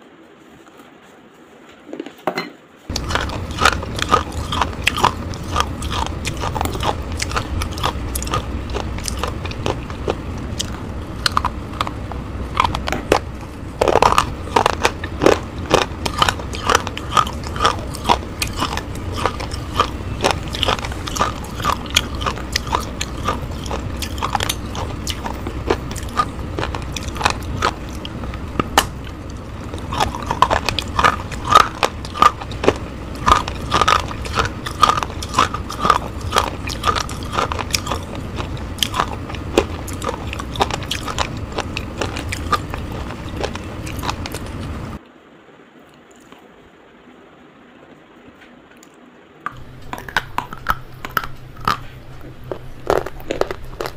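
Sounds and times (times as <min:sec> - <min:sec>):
low hum: 0:02.9 - 0:53.9.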